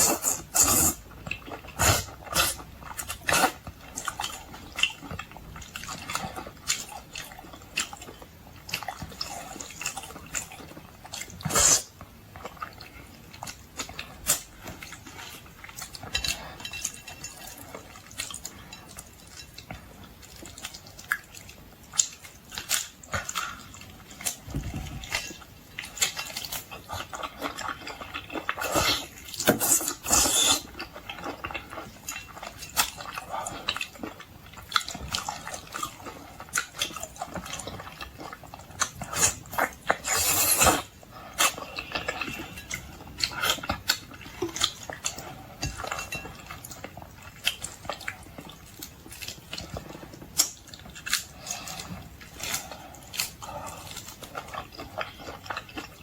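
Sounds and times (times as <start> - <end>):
chewing and mouth smacks: 0.0 - 56.0.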